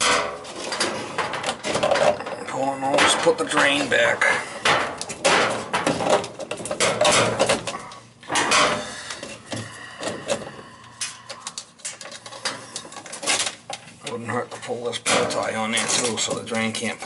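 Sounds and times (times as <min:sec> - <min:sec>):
plastic hose rustling and scraping: 0:00.0 - 0:09.5, 0:11.5 - 0:17.0.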